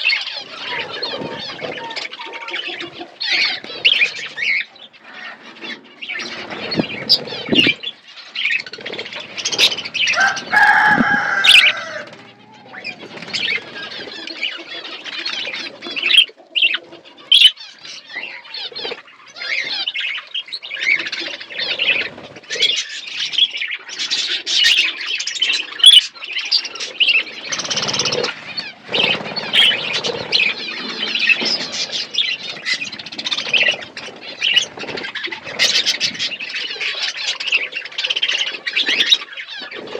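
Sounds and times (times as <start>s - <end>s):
loud bird call: 0.0s - 22.8s, 25.6s - 37.5s
budgerigars chattering: 0.0s - 39.9s.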